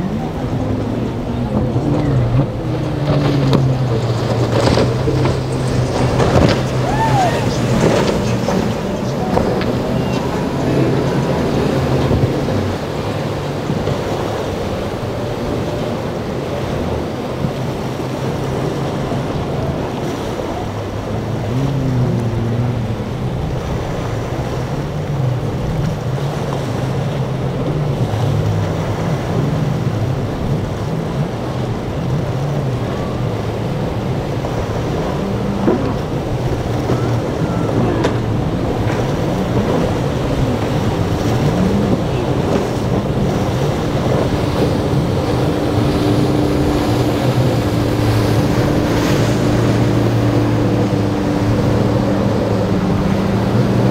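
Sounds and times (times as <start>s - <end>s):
outboard motors running: 0.0s - 53.9s
waves and spray washing: 0.0s - 53.9s
wind rumbling on microphone: 0.0s - 53.9s.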